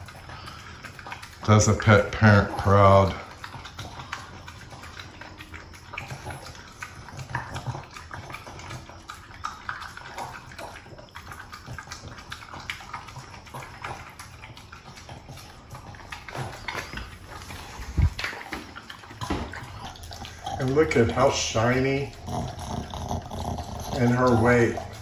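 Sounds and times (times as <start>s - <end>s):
dog eating wet food: 0.0s - 25.0s.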